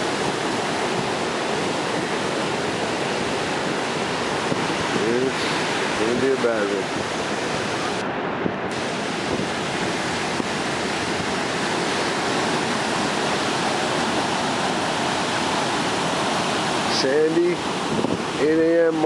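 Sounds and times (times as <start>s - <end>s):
ocean waves breaking: 0.0s - 19.0s
wind: 0.0s - 19.0s.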